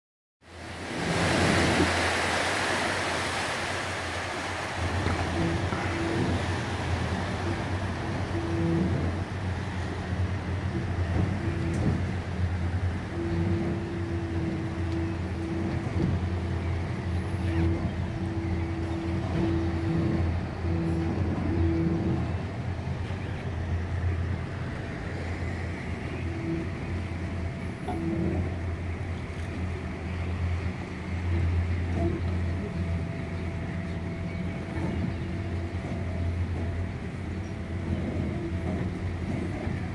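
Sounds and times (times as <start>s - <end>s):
boat engine humming: 0.4s - 39.9s
water washing past hull: 0.4s - 39.9s
higher engine tone: 4.2s - 39.4s.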